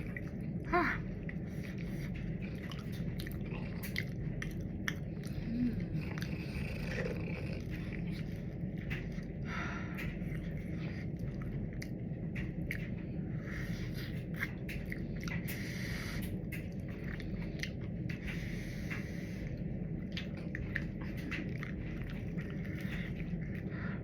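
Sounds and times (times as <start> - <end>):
close chewing: 0.0 - 24.0
steady low hum: 0.0 - 24.0.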